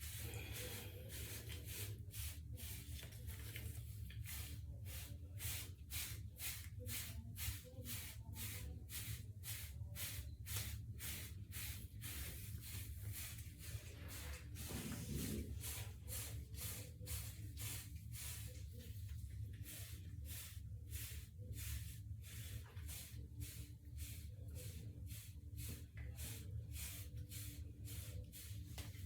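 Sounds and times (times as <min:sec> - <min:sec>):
brush bristles sweeping through hair: 0:00.0 - 0:29.0.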